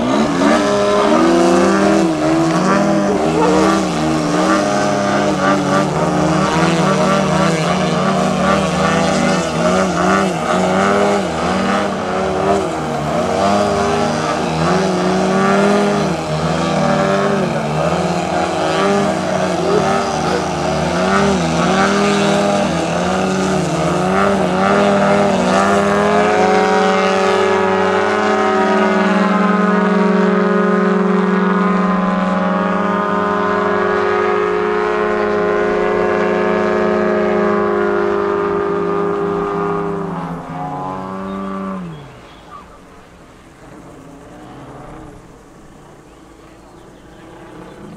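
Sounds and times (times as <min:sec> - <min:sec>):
model airplane engines: 0:00.0 - 0:47.9.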